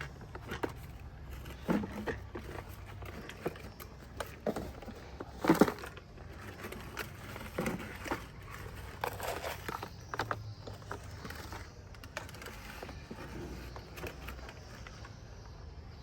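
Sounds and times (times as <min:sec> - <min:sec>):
toy vehicles knocking and clicking: 0:00.0 - 0:16.0.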